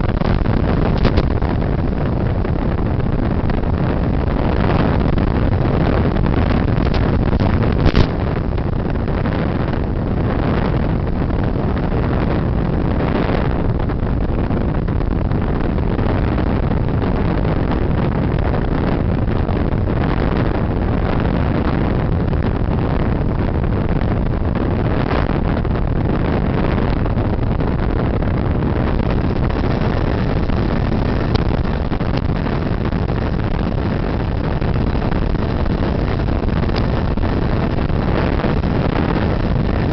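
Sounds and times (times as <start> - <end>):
wind and propeller noise: 0.0 - 39.9.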